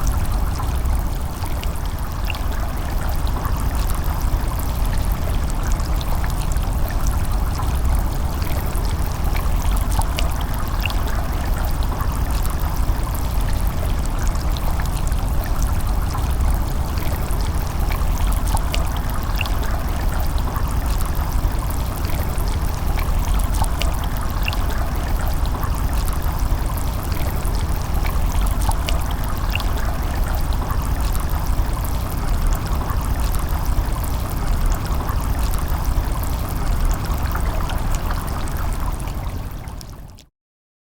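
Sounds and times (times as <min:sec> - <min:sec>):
small splashes and trickles: 0:00.0 - 0:40.3.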